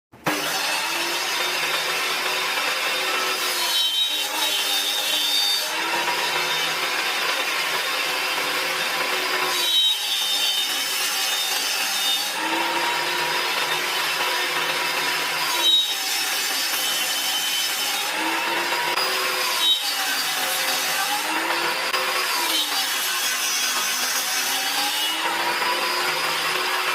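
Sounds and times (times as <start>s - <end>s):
power tool cutting wood: 0.2s - 26.9s.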